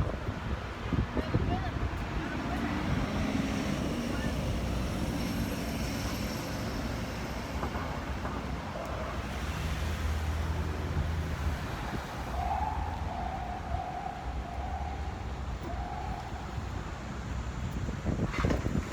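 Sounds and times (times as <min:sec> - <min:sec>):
traffic rumble: 0:00.0 - 0:18.9.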